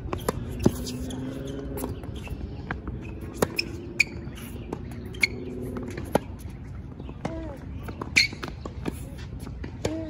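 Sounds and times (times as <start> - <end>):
tennis ball bouncing: 0.0 - 10.0.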